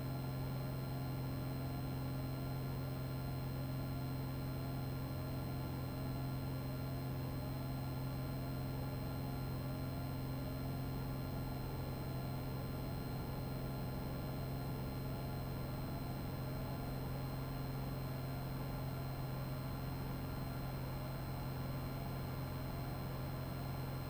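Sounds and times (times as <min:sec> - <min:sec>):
light aircraft engine and propeller drone: 0:00.0 - 0:24.0.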